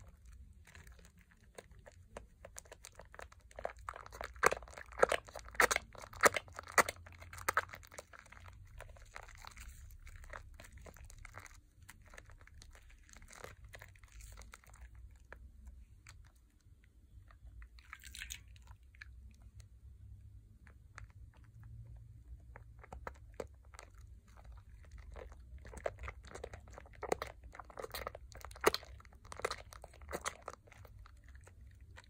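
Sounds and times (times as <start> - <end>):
hands kneading soap lather: 0.0 - 32.0.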